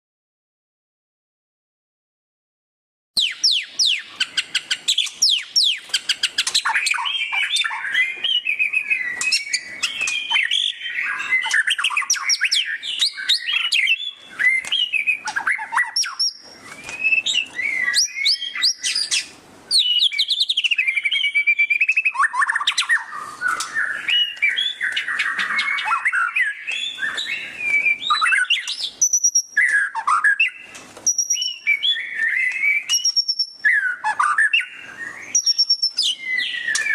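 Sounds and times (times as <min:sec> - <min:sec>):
bird singing fast whistles: 0:03.2 - 0:36.9.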